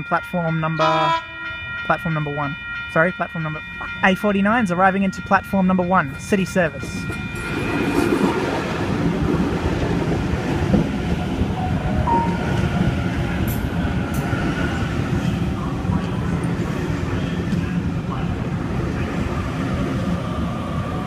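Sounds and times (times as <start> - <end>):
train wheels rumbling on rails: 1.8 - 21.0.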